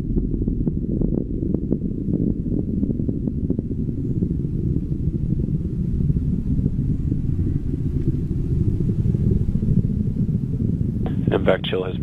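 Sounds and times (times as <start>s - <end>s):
rocket rumble in flight: 0.0s - 12.0s.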